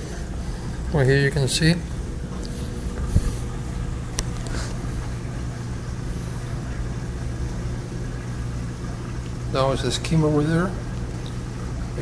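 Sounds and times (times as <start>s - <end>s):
aquarium pump hum: 0.0s - 12.0s.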